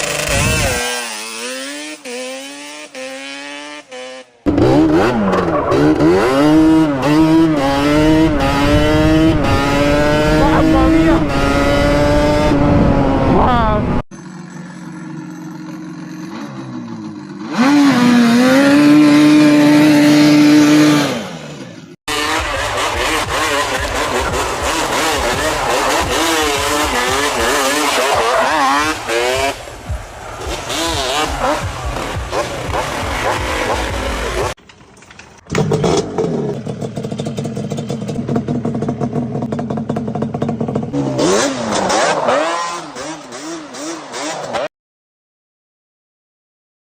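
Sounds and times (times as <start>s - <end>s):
two-stroke engine idling and revving: 0.0s - 44.7s.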